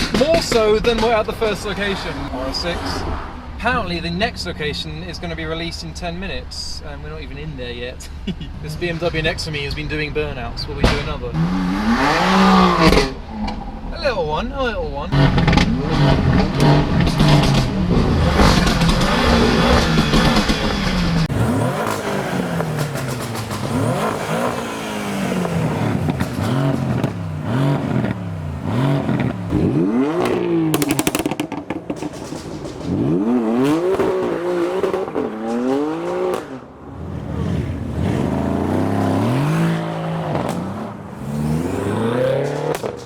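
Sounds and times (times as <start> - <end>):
car engines revving hard: 0.0 - 13.9, 15.0 - 43.0.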